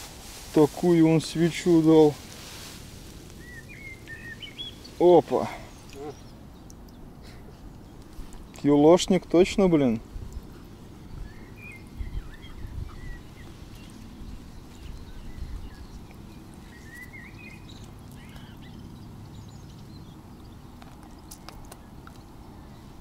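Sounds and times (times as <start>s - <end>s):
low wind rumble: 0.0s - 23.0s
small birds chirping: 0.6s - 23.0s.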